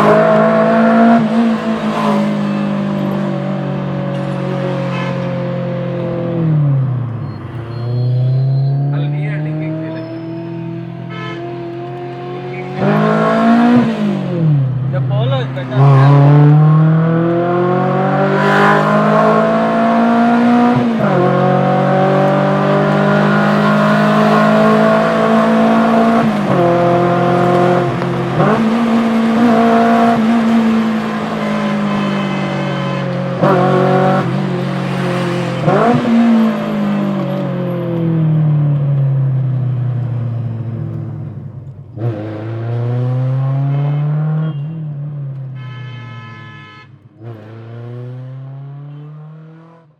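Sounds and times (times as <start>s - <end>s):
car engine revving hard: 0.0s - 38.0s, 42.0s - 44.6s, 47.2s - 49.9s.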